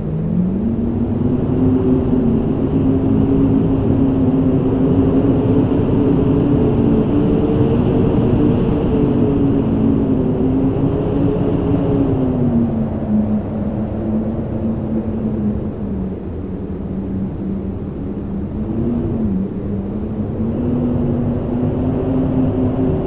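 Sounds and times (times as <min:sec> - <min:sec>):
howling wind: 0:00.0 - 0:23.0.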